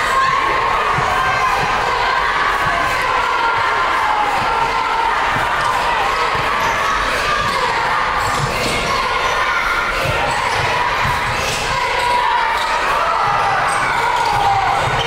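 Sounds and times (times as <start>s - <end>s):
crowd noise in a hall: 0.0s - 15.0s.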